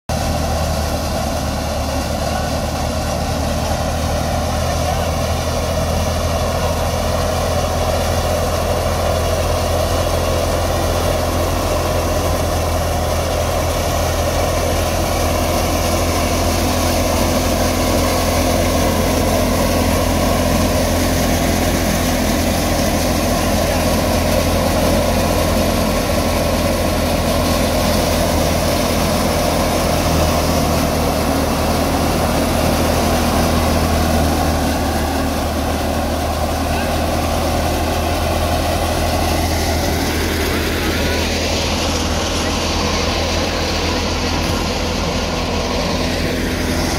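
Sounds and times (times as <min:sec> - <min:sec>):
diesel engine drone: 0:00.1 - 0:46.9
thresher machine running: 0:00.1 - 0:46.9.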